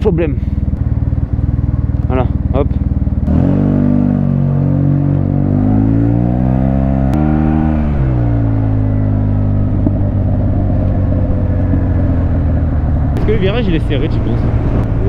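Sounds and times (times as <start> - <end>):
scooter engine pulling away: 0.8 - 15.0.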